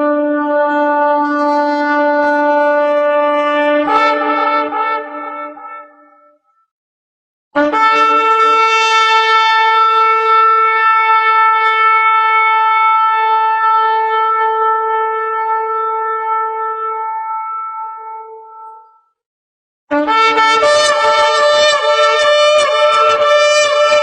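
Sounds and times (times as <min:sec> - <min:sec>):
shofar long blast: 0:00.0 - 0:06.2, 0:07.6 - 0:18.9, 0:19.9 - 0:24.0.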